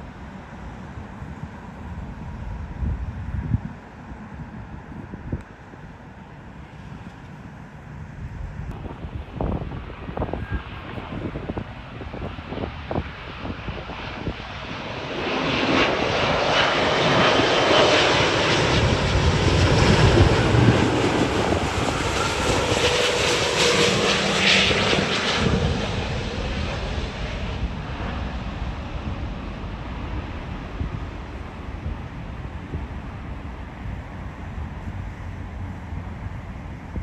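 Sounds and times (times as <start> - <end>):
jet airliner passing: 0.0 - 37.0.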